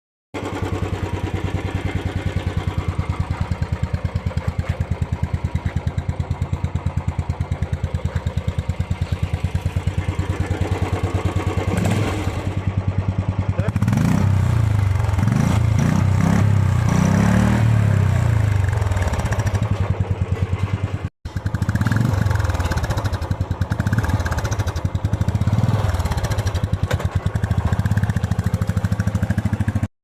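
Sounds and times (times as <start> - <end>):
motorcycle engine idling and revving: 0.4 - 29.9.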